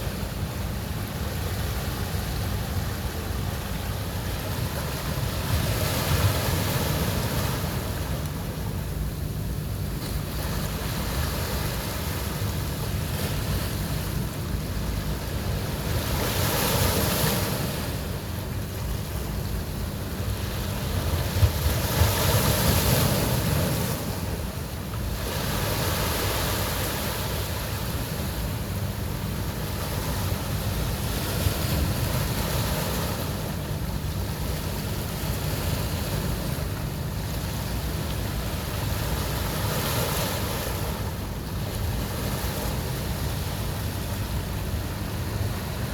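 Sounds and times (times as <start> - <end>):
ocean surf breaking on beach: 0.0 - 45.9.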